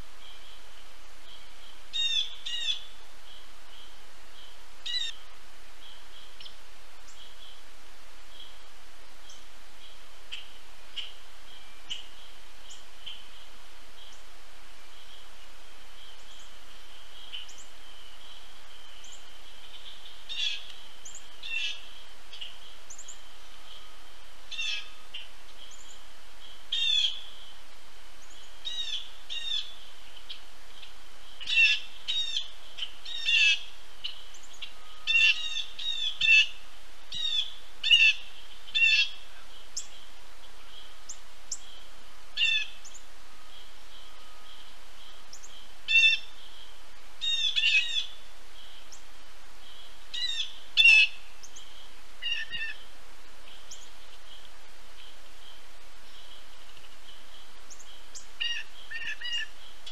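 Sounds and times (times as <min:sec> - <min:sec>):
faint steady high hum: 0:00.0 - 0:59.9
wild birds calling: 0:00.0 - 0:59.9.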